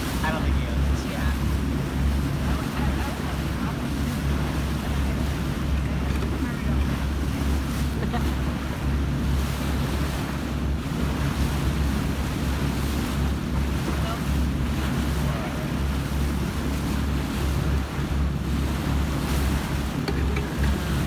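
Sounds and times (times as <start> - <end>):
boat engine low rumble: 0.0 - 21.0
water rushing past hull: 0.0 - 21.0.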